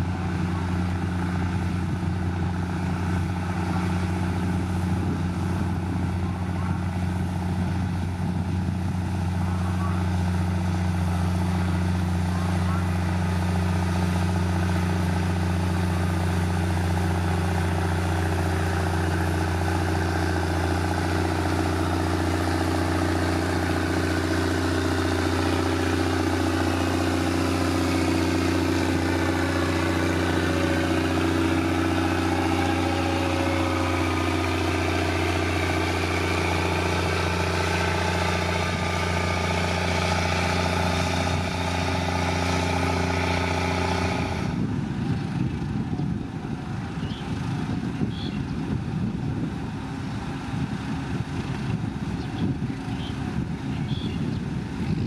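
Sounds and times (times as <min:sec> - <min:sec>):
diesel engine running steadily: 0:00.0 - 0:55.0
fainter engine rising and falling: 0:00.0 - 0:55.0.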